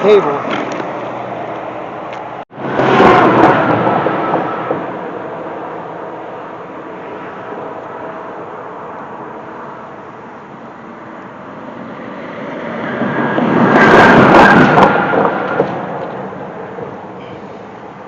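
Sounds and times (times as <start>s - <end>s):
vehicle passing close by: 0.0s - 17.3s
highway traffic: 0.0s - 18.0s.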